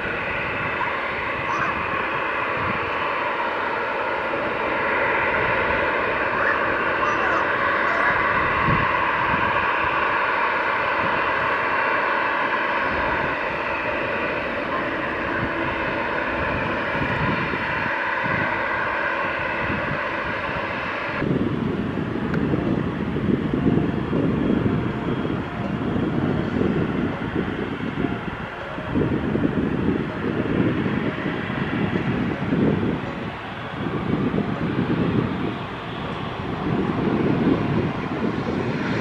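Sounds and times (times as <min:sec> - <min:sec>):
jet engines whining: 0:00.0 - 0:39.0
loud uneven low rumble: 0:00.0 - 0:39.0.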